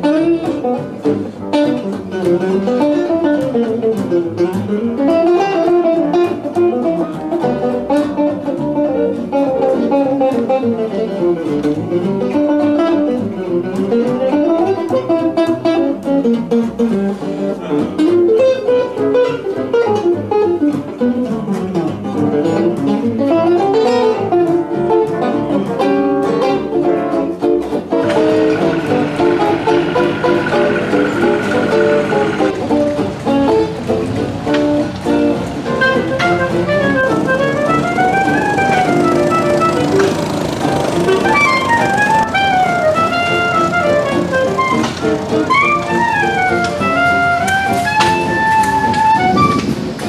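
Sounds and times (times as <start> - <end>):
plucked guitar music: 0.0 - 50.0.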